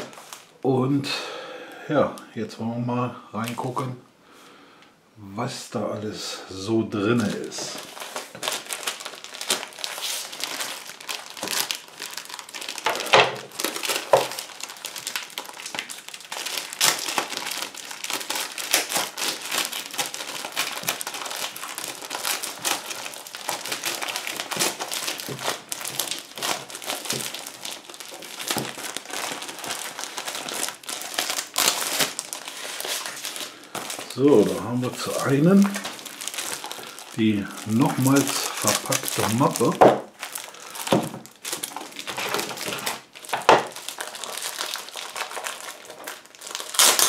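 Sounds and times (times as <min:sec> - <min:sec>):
plastic wrapping crinkling: 0:00.0 - 0:00.7, 0:07.0 - 0:47.0.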